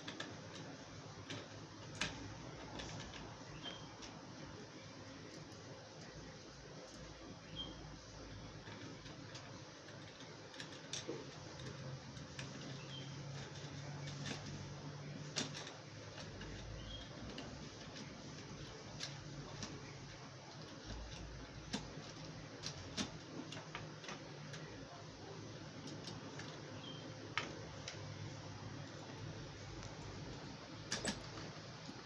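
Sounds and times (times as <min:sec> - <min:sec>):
small parts clicking and tapping: 0:00.0 - 0:07.2, 0:08.2 - 0:32.0.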